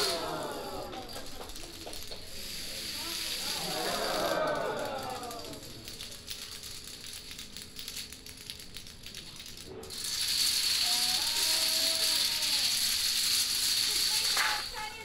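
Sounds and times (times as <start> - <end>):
dominoes toppling clatter: 0.0 - 15.0
stacked dominoes collapsing: 0.0 - 15.0.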